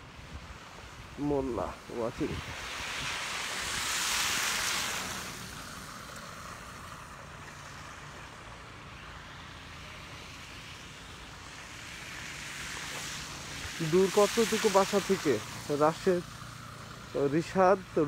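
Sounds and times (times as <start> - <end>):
outdoor rushing noise: 0.0 - 18.0.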